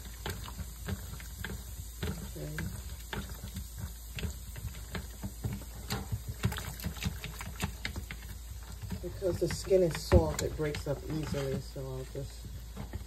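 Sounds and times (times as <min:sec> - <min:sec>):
berries tapping in a strainer: 0:00.0 - 0:13.0.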